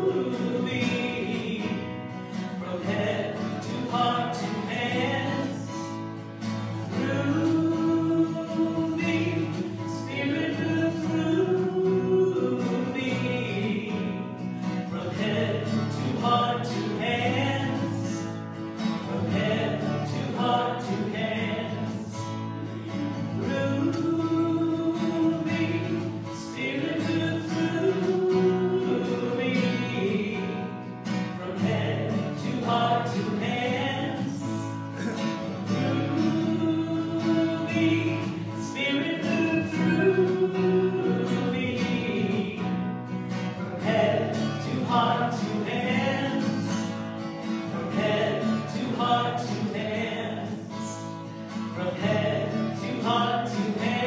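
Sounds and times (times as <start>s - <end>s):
woman and man singing: 0.0s - 6.0s, 6.7s - 54.0s
acoustic guitar: 0.0s - 54.0s.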